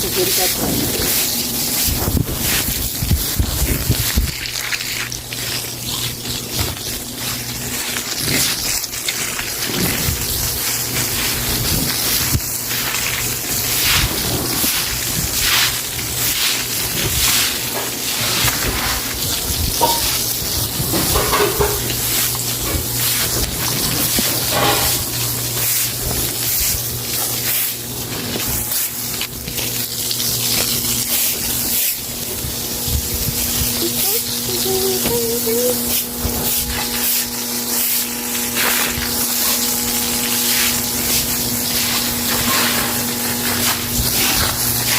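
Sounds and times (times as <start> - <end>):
broom scrubbing wet floor: 0.0 - 44.9
running water: 0.0 - 44.9
steady wet hiss: 0.0 - 44.9.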